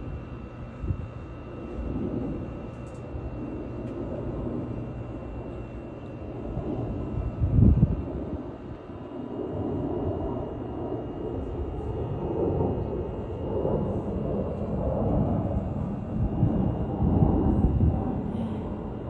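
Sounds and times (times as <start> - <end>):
airliner engines rumbling overhead: 0.0 - 19.0.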